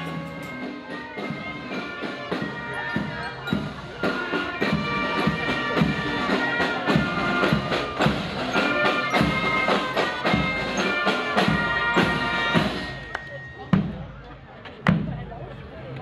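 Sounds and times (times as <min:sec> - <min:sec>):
fifes playing a march: 0:00.0 - 0:14.2.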